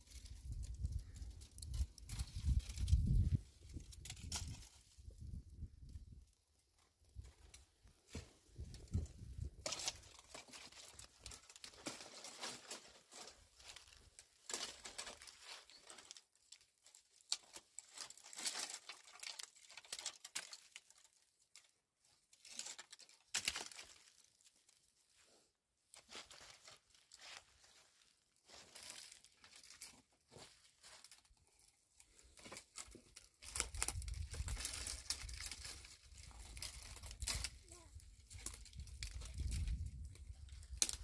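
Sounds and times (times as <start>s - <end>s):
rustling and crinkling: 0.0s - 41.0s.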